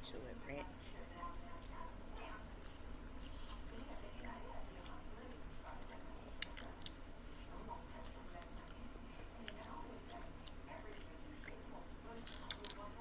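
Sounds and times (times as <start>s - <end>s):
steady low hum: 0.0s - 13.0s
chewing food: 0.5s - 13.0s.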